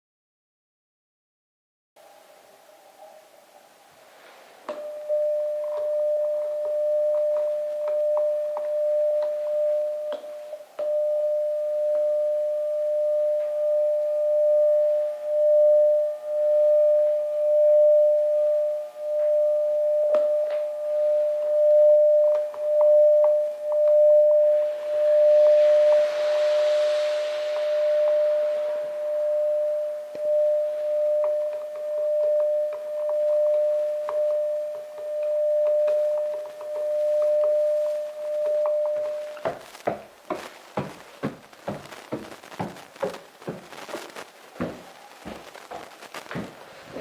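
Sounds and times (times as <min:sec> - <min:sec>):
steady electronic tone: 0:04.7 - 0:46.5.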